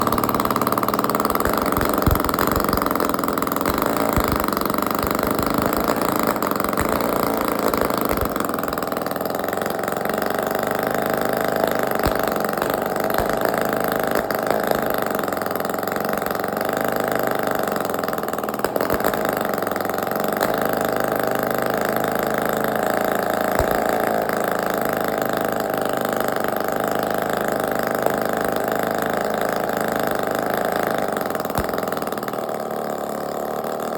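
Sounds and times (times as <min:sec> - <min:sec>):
two-stroke engine idling: 0:00.0 - 0:33.9.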